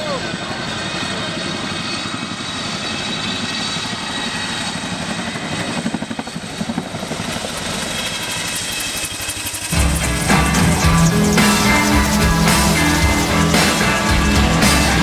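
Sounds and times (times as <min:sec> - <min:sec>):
helicopter high whine: 0:00.0 - 0:15.0
helicopter rotor chop: 0:00.0 - 0:15.0.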